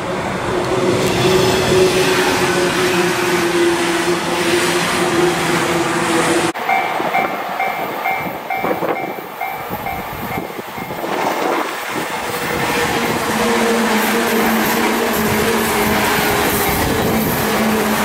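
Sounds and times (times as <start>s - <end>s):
electric train approaching: 0.0s - 18.0s.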